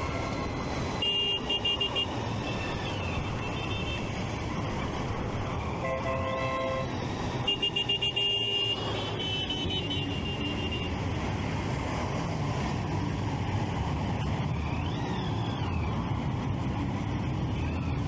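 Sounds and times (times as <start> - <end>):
wind and road rumble: 0.0 - 18.0.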